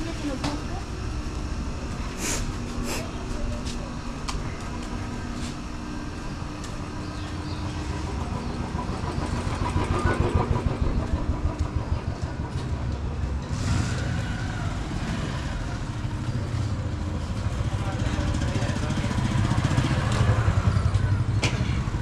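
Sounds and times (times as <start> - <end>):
motorcycle and scooter engines: 0.0 - 22.0.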